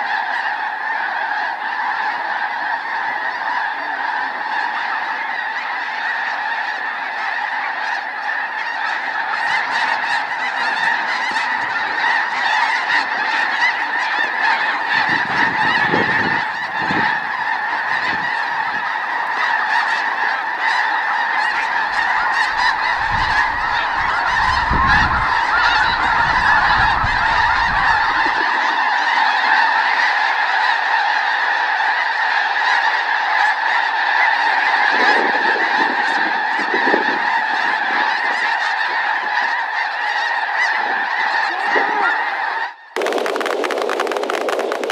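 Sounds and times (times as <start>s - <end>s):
snow geese honking: 0.0s - 44.9s.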